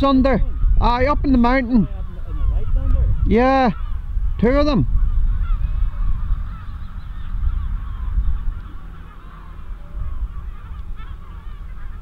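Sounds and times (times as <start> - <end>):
birds honking calls: 0.0 - 12.0.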